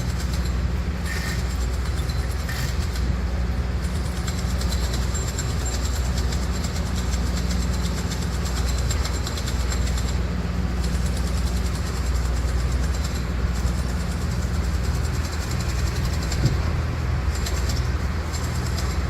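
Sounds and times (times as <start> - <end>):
low diesel engine drone: 0.0 - 19.0
rapid mechanical clatter: 0.0 - 19.0.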